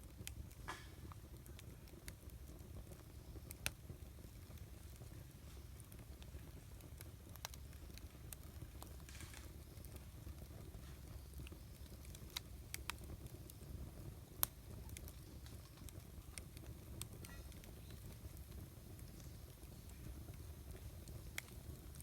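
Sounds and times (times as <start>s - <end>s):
campfire crackling and popping: 0.0s - 22.0s
low fire rumble: 0.0s - 22.0s.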